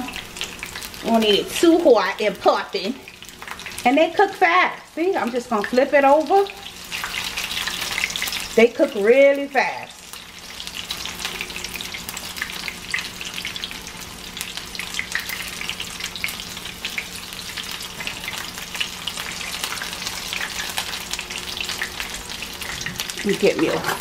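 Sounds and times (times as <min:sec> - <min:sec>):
fritters sizzling in hot oil: 0:00.0 - 0:24.0.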